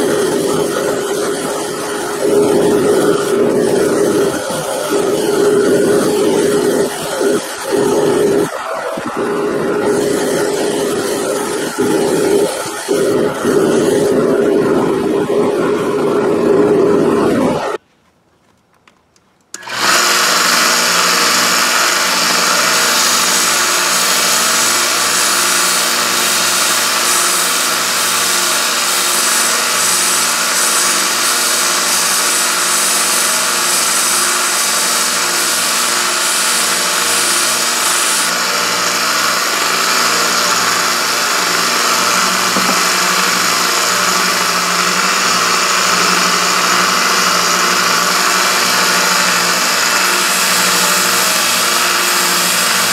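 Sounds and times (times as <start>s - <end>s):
belt sander grinding steel: 0.0s - 17.8s, 19.6s - 52.9s.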